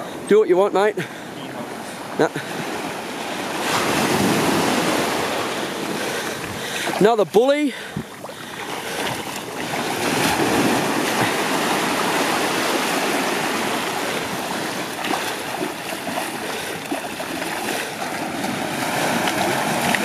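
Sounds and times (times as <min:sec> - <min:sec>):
shallow water splashing: 0:01.8 - 0:20.0.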